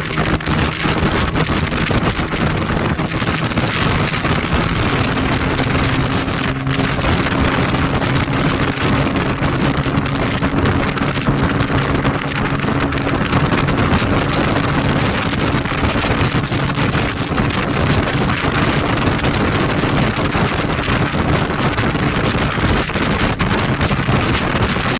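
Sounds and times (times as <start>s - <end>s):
motorcycle running at speed: 0.0s - 24.9s
wind rush on microphone: 0.0s - 24.9s.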